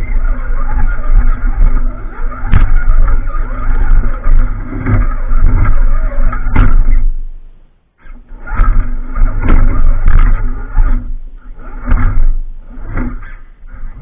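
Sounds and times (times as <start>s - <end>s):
electric motor and gears grinding: 0.0s - 14.0s.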